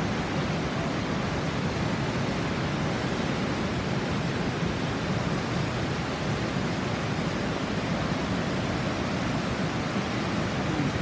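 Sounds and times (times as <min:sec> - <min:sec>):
whitewater rushing over rocks: 0:00.0 - 0:11.0.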